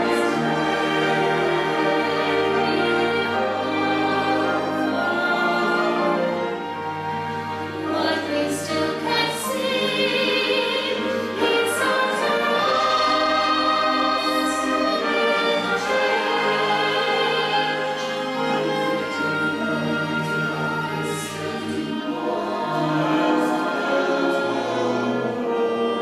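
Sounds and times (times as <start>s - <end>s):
choir singing: 0.0s - 26.0s
orchestra playing: 0.0s - 26.0s.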